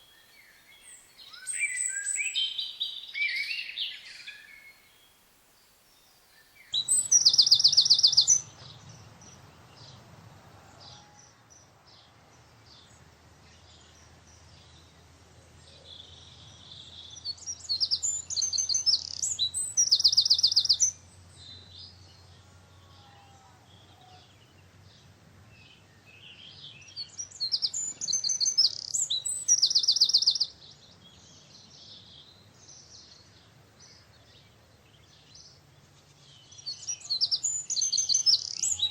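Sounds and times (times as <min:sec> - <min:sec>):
songbird singing with trill: 0:00.0 - 0:10.0, 0:10.7 - 0:38.9.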